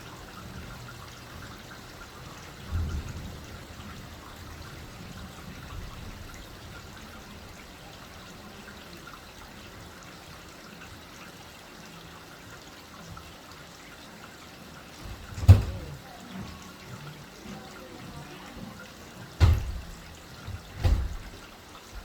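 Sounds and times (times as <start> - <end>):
light rain hiss: 0.0 - 22.0.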